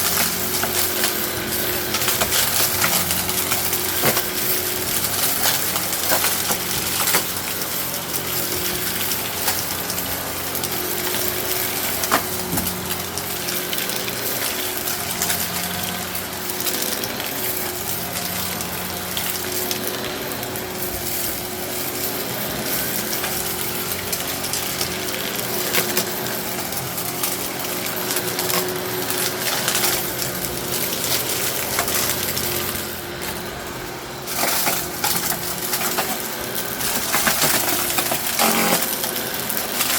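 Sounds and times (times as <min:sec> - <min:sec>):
gravel rattling through vacuum: 0:00.0 - 0:39.9
upright vacuum running: 0:00.0 - 0:39.9.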